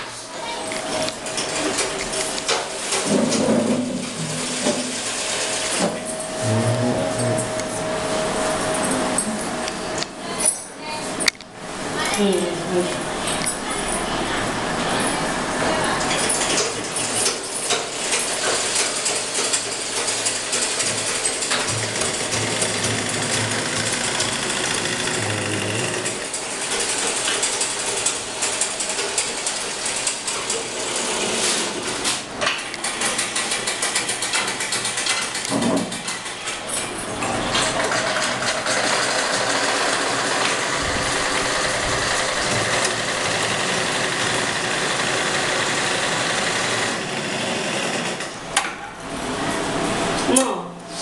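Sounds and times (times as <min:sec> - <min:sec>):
sewing machines rattling: 0:00.8 - 0:07.2, 0:14.8 - 0:49.8.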